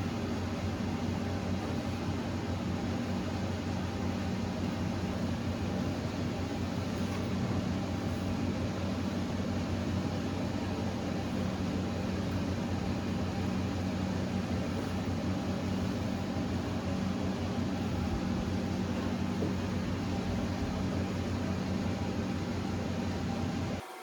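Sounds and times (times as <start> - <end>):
mechanical hum with hiss: 0.0 - 24.0.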